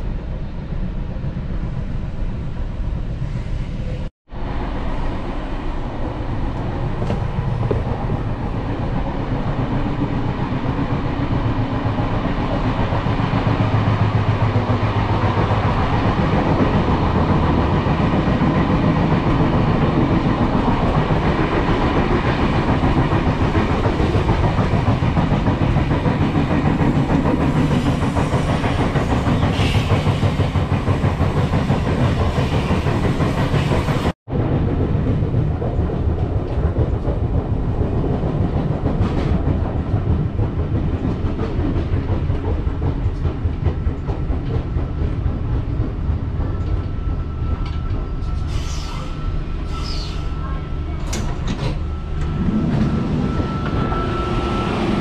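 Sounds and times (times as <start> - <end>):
train wheels clacking on rails: 6.0 - 55.0.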